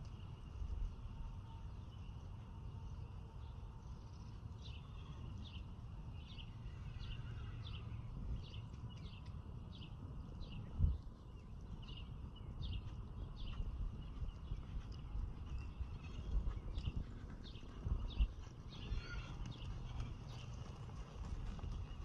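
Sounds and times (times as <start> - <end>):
low outdoor background rumble: 0.0 - 22.0
small birds chirping: 0.0 - 22.0.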